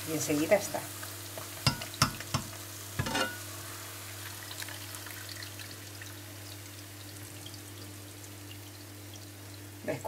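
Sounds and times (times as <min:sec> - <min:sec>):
hot oil sizzling in a frying pan: 0:00.0 - 0:10.0.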